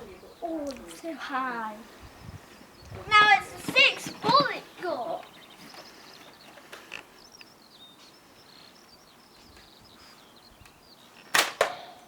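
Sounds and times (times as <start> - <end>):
songbirds chirping and warbling: 0.0 - 12.0.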